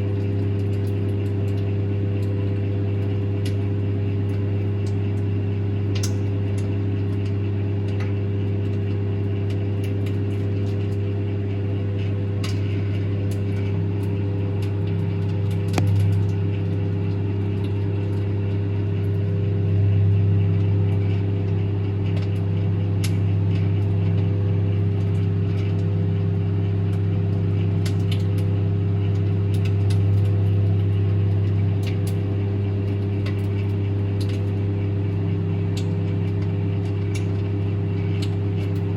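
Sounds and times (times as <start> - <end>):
microwave oven humming: 0.0 - 38.9.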